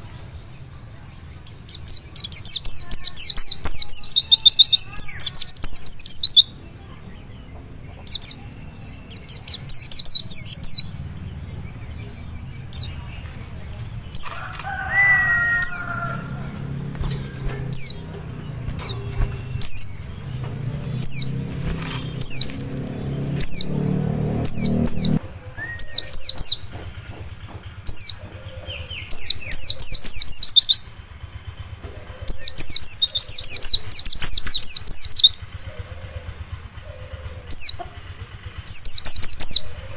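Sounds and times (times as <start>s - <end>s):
low background rumble: 0.0s - 39.8s
bird chirping rapidly: 1.4s - 31.5s, 32.3s - 35.6s, 38.5s - 39.8s.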